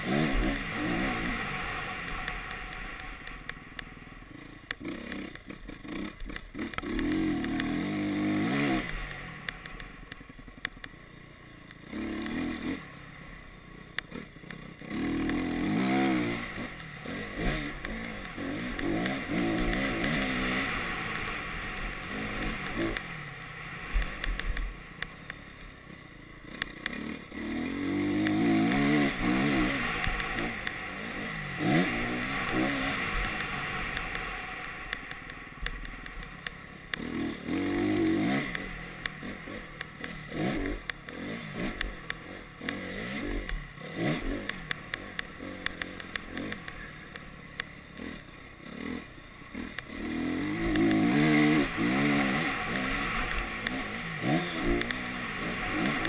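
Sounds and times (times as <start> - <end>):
clatter: 0.0 - 11.0, 13.9 - 23.1, 26.4 - 56.0
motorcycle engine revving: 0.0 - 56.0.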